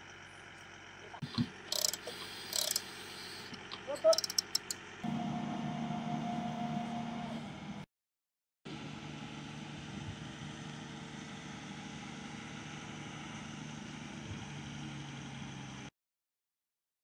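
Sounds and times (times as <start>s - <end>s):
crane engine humming: 0.0s - 7.9s, 8.7s - 15.9s.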